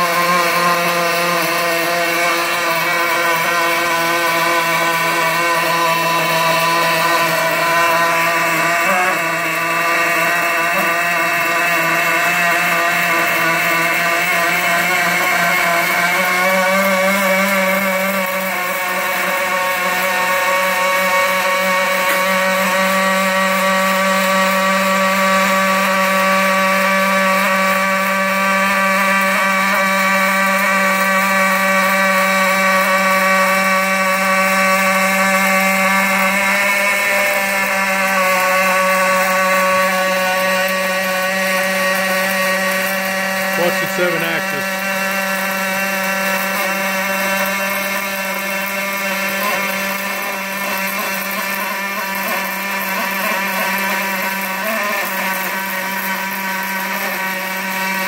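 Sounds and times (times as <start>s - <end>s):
welding arc buzzing: 0.0s - 58.0s.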